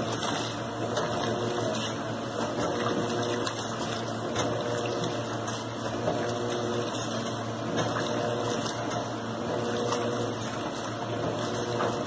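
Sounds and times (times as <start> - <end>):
low motor hum: 0.0 - 12.0
washing machine water sloshing: 0.0 - 12.0.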